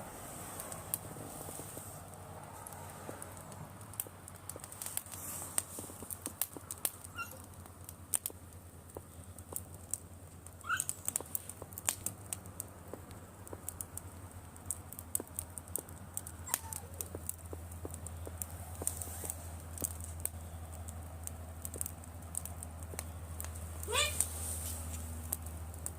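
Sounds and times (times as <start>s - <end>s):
campfire crackling: 0.0s - 25.9s.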